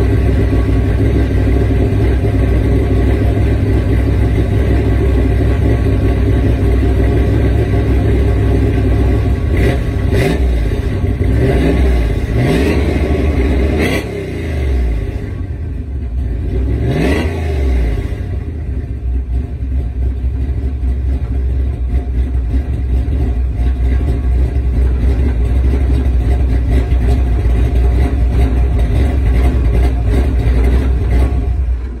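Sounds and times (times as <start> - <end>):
engine revving: 0.0 - 19.4, 22.4 - 32.0
deep engine idle: 0.0 - 32.0.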